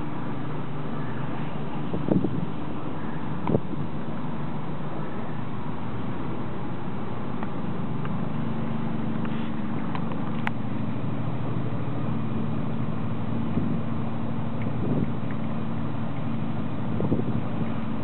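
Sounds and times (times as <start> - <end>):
ship engine humming: 0.0 - 18.0
water and wind rushing: 0.0 - 18.0.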